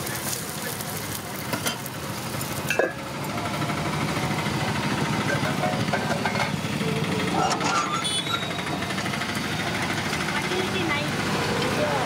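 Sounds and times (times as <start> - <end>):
gas burner humming: 0.0 - 12.0.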